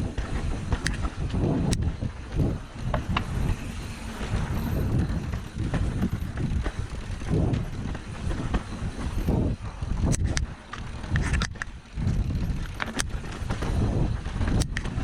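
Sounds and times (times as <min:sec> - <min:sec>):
bike rattling and knocking: 0:00.0 - 0:15.0
wind buffeting microphone: 0:00.0 - 0:15.0.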